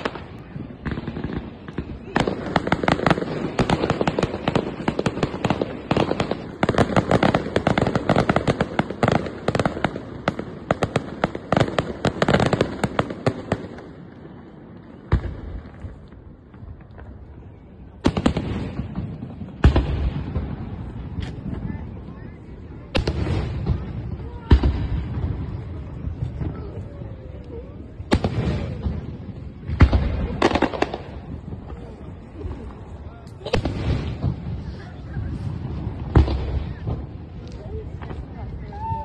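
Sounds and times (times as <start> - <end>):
firework bangs and crackles: 0.0 - 39.0.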